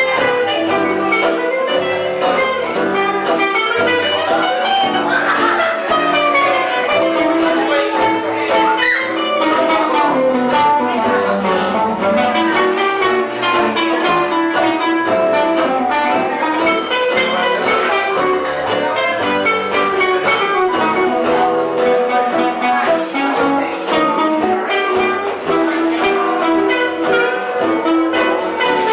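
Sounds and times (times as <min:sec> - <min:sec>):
bowed string melody: 0:00.0 - 0:28.9
live band music: 0:00.0 - 0:28.9.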